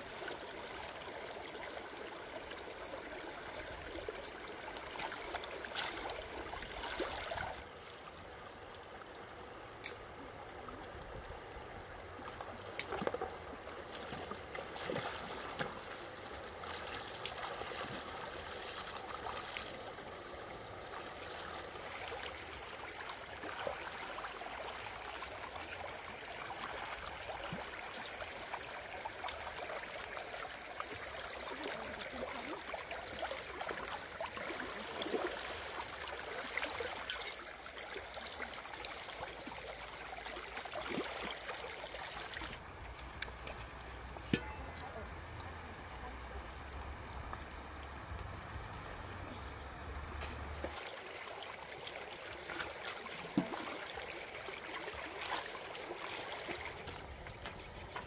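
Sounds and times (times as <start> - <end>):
river trickling over rocks: 0.0 - 58.0.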